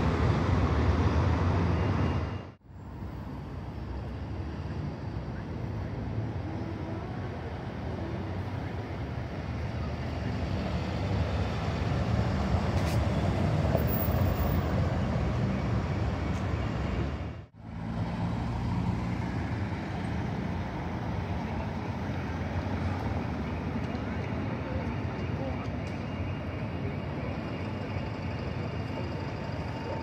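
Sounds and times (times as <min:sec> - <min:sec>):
bus engine running: 0:00.0 - 0:30.0
road traffic noise: 0:00.0 - 0:30.0.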